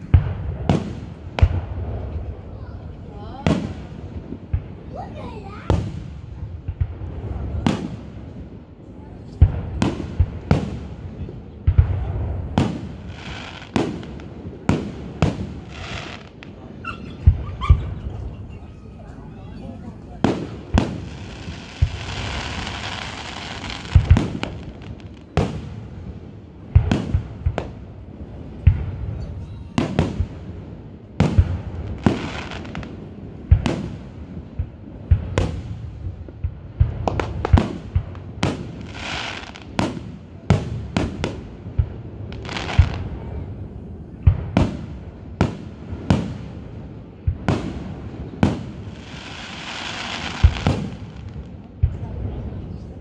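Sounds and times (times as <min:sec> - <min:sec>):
fireworks bangs and booms: 0:00.0 - 0:53.0.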